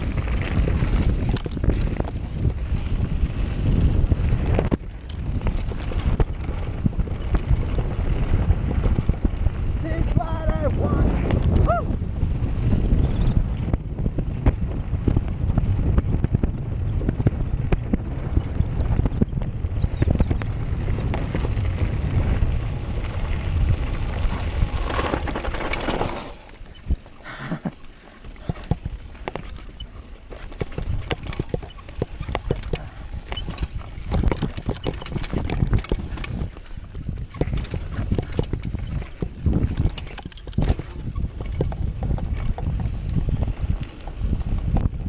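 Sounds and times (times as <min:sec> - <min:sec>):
bike rattling and knocking: 0:00.0 - 0:11.7, 0:13.0 - 0:45.0
bike tyres rolling over gravel: 0:00.0 - 0:45.0
wind rushing over microphone: 0:00.0 - 0:45.0.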